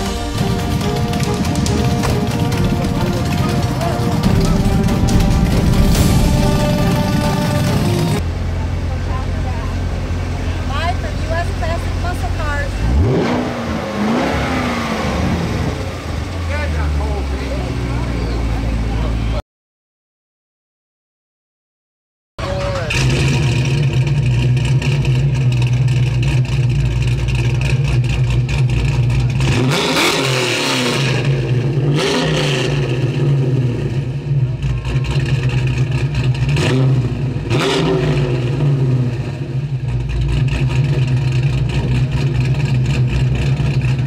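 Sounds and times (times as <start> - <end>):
car engine humming: 0.0 - 19.4, 22.4 - 44.0
car engine revving: 0.0 - 19.4, 22.4 - 44.0.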